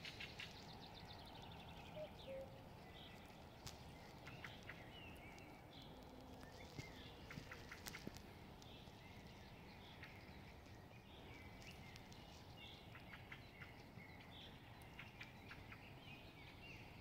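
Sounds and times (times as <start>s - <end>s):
birds chirping: 0.0s - 17.0s
faint steady rumble: 0.0s - 17.0s.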